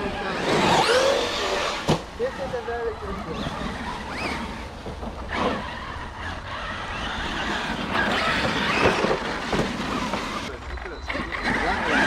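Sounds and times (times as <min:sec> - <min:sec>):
rc trucks spinning tyres on dirt: 0:00.0 - 0:12.0.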